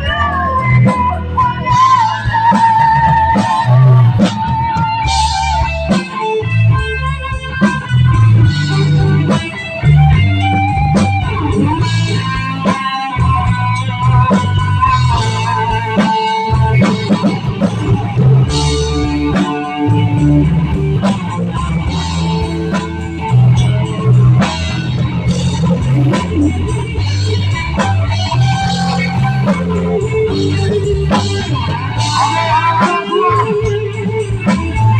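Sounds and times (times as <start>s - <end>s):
bass guitar: 0.0s - 34.9s
drums: 0.0s - 34.9s
electric guitar lead: 0.0s - 34.9s.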